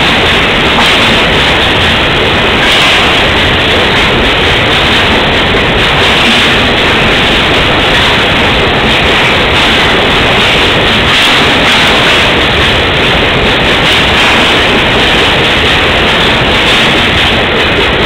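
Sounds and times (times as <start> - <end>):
freight train passing: 0.0 - 18.0.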